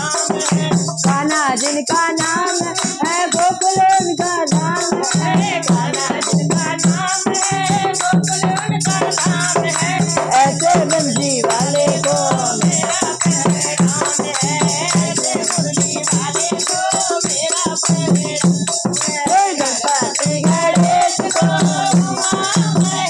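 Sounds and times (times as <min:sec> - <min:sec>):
boy and women singing: 0:00.0 - 0:23.0.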